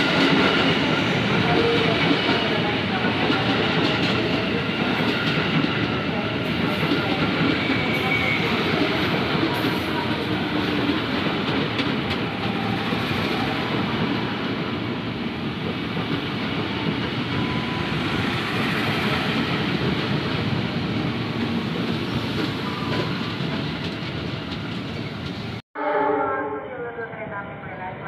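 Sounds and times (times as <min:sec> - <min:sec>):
train rumbling and clattering past: 0:00.0 - 0:25.6.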